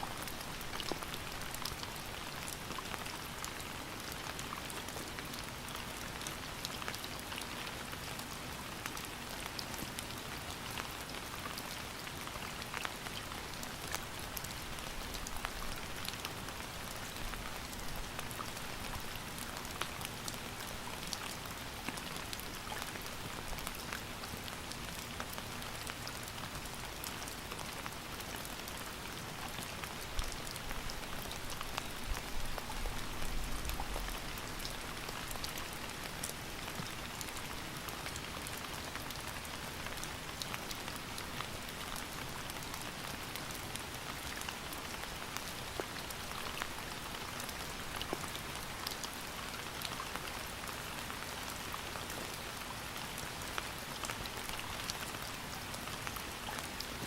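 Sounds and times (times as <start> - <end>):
raindrops ticking on a surface: 0.0 - 57.0
steady rain hissing: 0.0 - 57.0.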